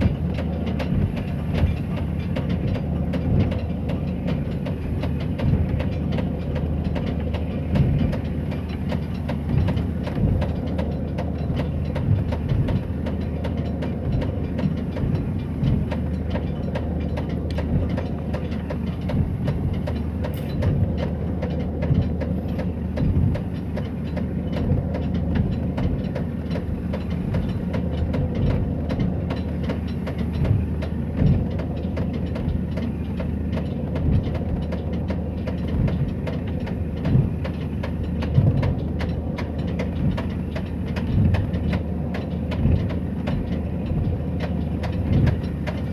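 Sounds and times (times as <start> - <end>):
boat engine knocking: 0.0 - 45.9.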